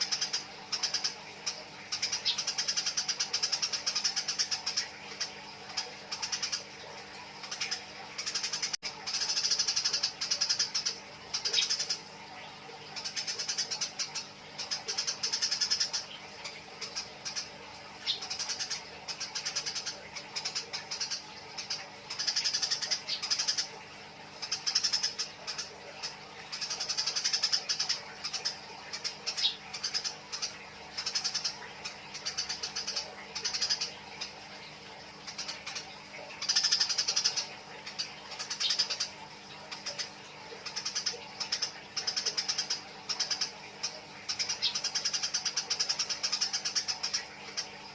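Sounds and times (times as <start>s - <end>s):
faint steady hum: 0.0s - 47.9s
sparrows chattering: 0.0s - 47.9s.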